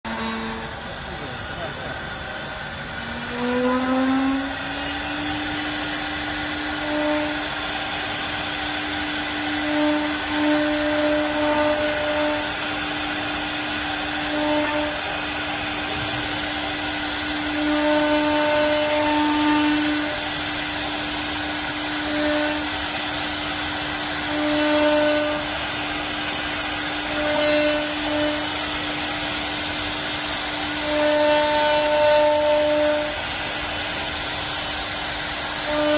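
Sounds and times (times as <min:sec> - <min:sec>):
router spindle whine: 0:00.1 - 0:35.9.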